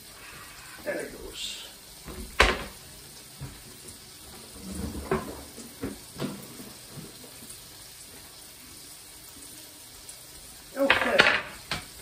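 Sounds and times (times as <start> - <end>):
frying sizzle in a pan: 0.0 - 12.0.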